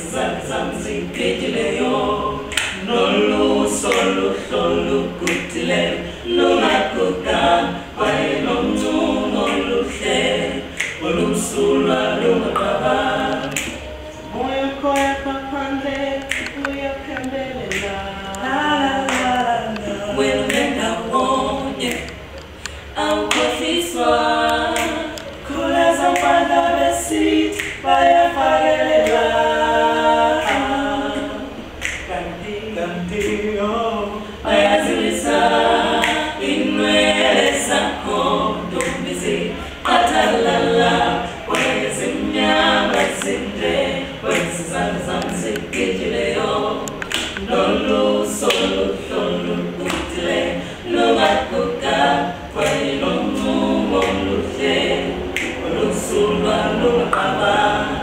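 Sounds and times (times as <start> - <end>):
a cappella group singing: 0.0 - 58.0.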